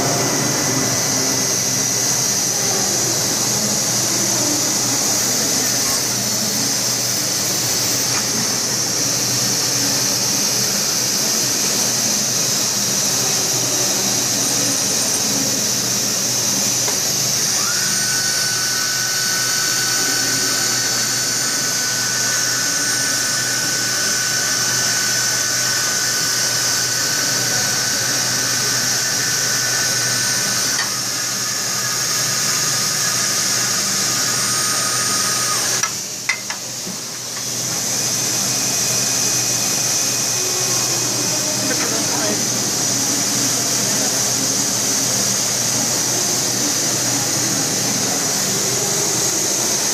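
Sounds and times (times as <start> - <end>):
high steady whine: 0.0 - 49.9
lathe machining hiss: 0.0 - 49.9.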